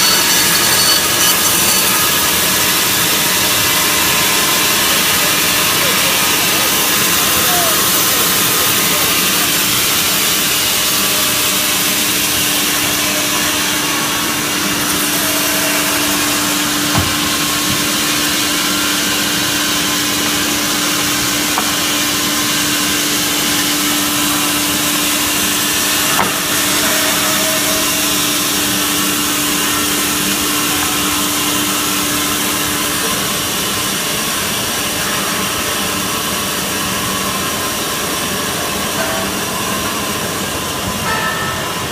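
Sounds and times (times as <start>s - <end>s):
band saw running: 0.0s - 41.8s.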